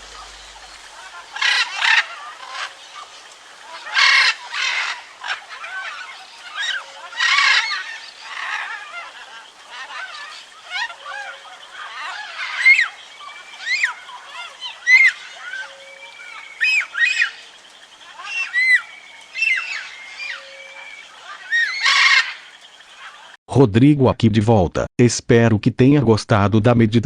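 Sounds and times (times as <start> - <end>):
birds chirping: 0.0 - 23.4
loud harsh bird calls: 0.0 - 23.4.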